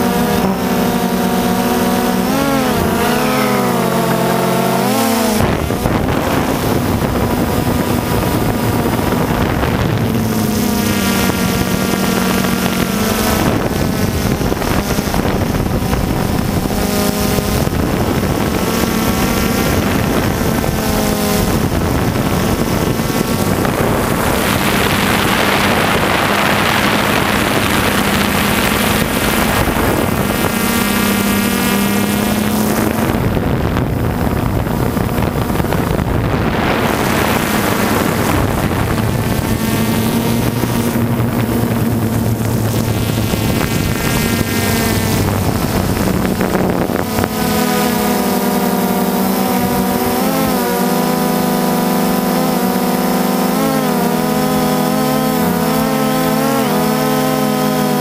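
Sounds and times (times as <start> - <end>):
drone propellers buzzing: 0.0 - 58.0
wind on microphone: 0.0 - 58.0.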